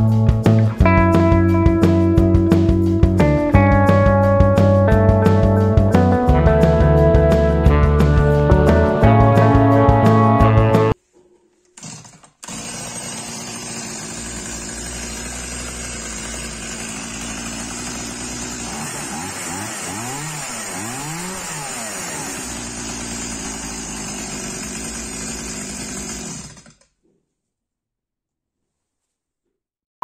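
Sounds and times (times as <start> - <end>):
chainsaw engine running: 0.4 - 11.0, 11.8 - 26.9.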